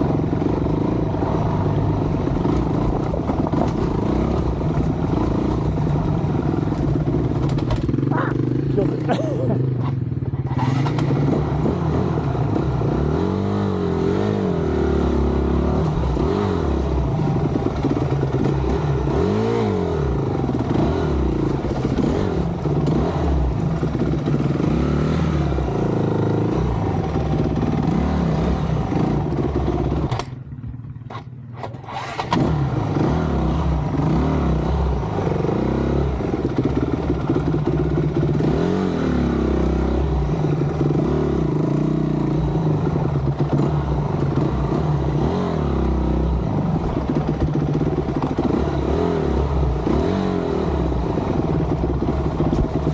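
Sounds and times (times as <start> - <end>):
dirt bike engine revving: 0.0 - 30.2, 31.2 - 52.9.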